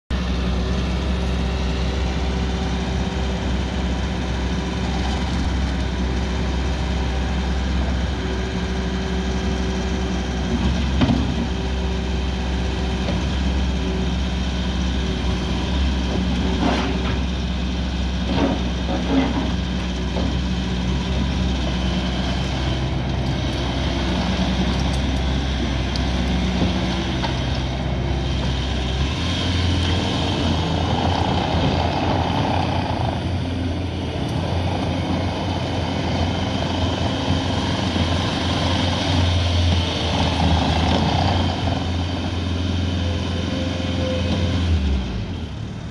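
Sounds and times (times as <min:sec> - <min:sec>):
skid steer loader engine running: 0:00.1 - 0:45.9.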